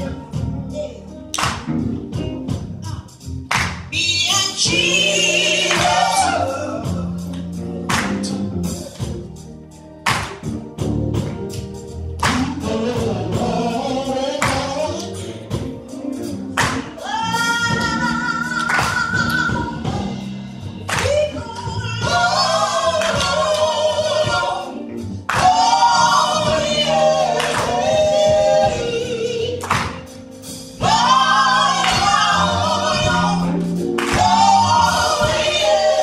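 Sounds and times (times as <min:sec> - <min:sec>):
woman singing gospel song: 0:00.0 - 0:01.7, 0:02.5 - 0:08.2, 0:12.2 - 0:30.1, 0:30.8 - 0:36.0
band accompaniment: 0:00.0 - 0:36.0.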